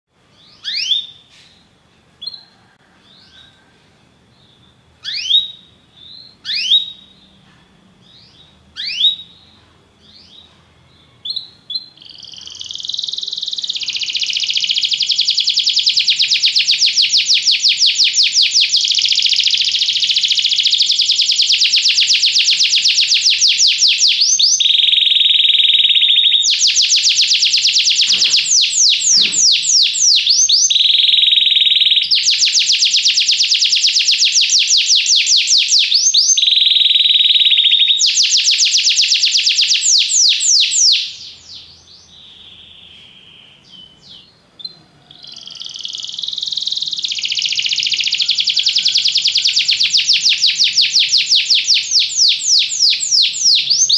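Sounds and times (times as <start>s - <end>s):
canary singing trills: 0.4s - 3.6s, 4.3s - 7.4s, 8.0s - 53.9s.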